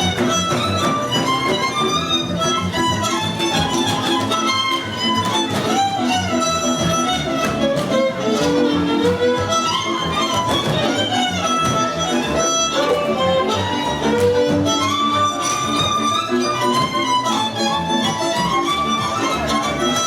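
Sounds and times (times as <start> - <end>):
string accompaniment: 0.0 - 20.0
violin melody: 0.0 - 20.0.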